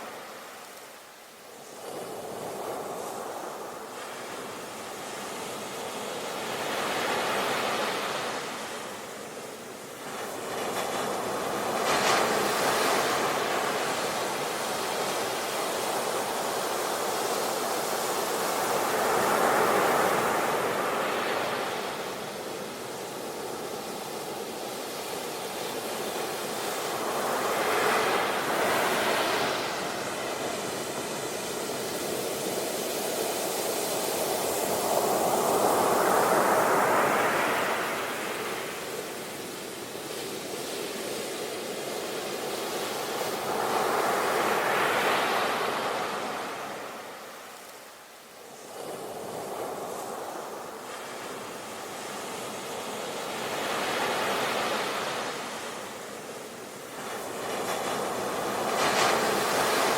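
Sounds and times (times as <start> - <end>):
sea waves breaking on beach: 1.6 - 59.9.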